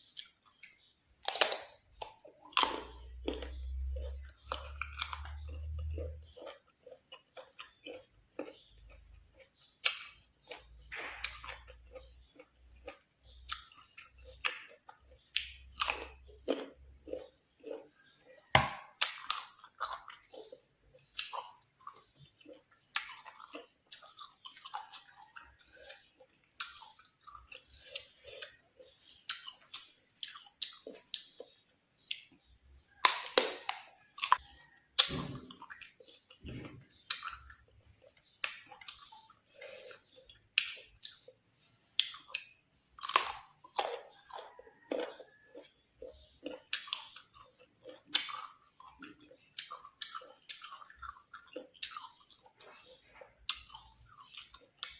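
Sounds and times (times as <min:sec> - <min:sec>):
crunchy biting and chewing: 0:00.2 - 0:54.9.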